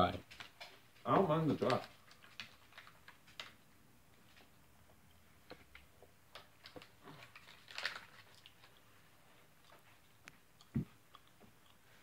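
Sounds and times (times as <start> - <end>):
chewing dry crackers: 0.3 - 3.6, 5.5 - 12.0.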